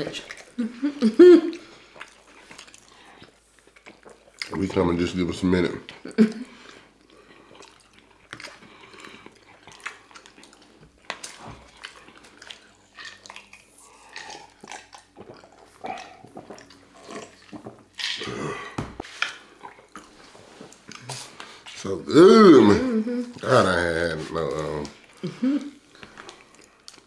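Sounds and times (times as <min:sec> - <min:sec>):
chewing: 0:00.0 - 0:00.8, 0:01.5 - 0:05.1, 0:05.8 - 0:21.9, 0:24.2 - 0:27.0.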